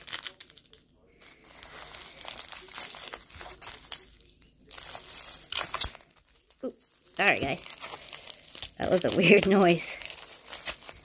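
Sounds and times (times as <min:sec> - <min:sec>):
bubble wrap crackling: 0:00.0 - 0:11.0.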